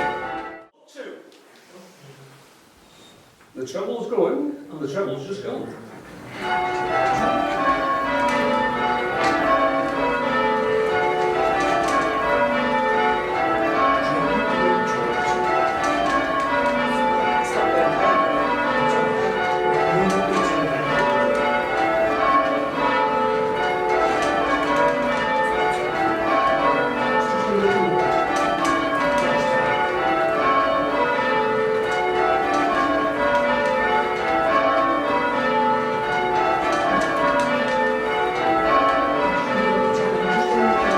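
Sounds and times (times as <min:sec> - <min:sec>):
church bells ringing: 0:00.0 - 0:00.8, 0:06.1 - 0:40.9.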